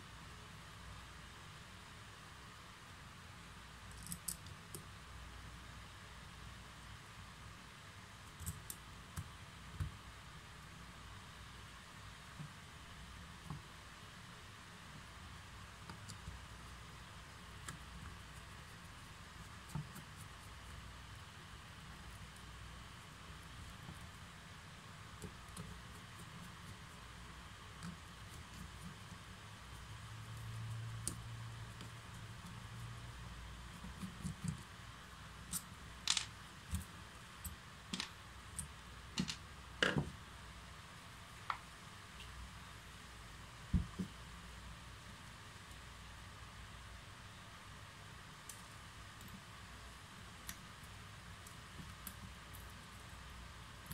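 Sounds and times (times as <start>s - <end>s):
steady low hiss: 0.0s - 53.9s.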